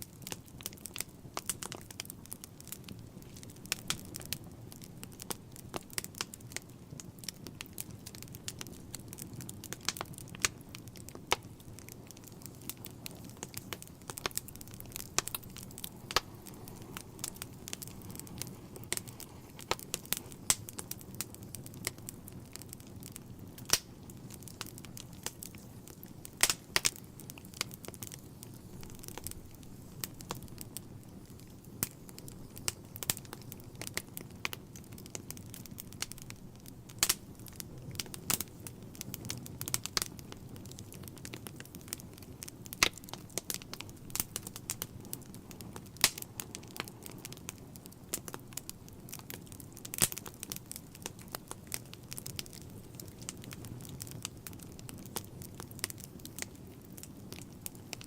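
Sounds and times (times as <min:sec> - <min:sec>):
low roar of burning logs: 0:00.0 - 0:58.0
wood fire crackling: 0:00.0 - 0:58.0.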